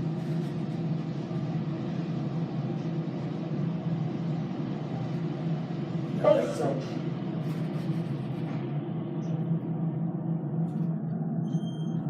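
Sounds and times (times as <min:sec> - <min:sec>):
lift hum and rumble: 0:00.0 - 0:12.0.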